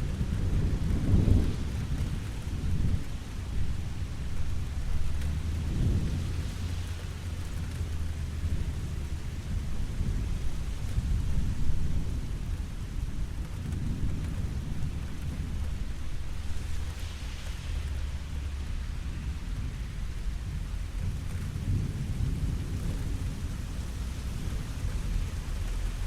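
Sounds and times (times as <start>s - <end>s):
deep continuous rumble: 0.0s - 26.0s
steady rain: 0.0s - 26.0s.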